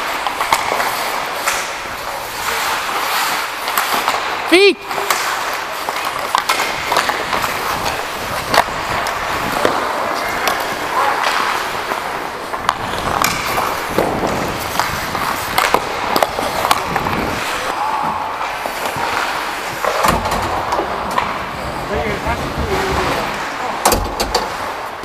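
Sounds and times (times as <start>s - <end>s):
skates scraping on ice: 0.0s - 23.8s, 24.4s - 25.0s
hockey sticks and puck clacking: 0.0s - 25.0s.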